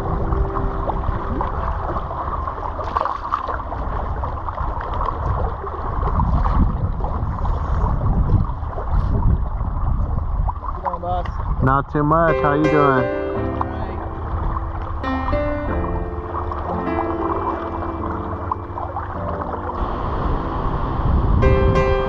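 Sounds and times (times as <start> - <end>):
wind buffeting microphone: 0.0 - 12.5, 13.7 - 22.0
water splashing and lapping: 0.0 - 22.0.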